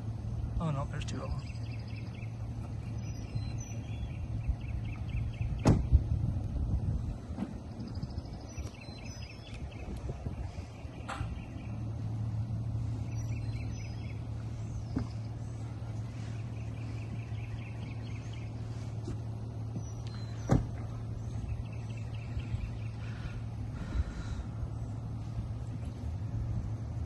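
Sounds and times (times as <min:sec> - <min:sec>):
birds chirping: 0:00.0 - 0:27.0
engine idling: 0:00.0 - 0:27.0.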